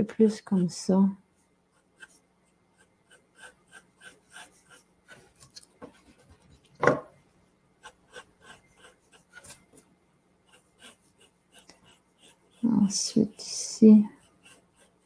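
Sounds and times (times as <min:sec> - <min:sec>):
pencil scratching on paper: 0:01.4 - 0:06.7, 0:07.8 - 0:15.0.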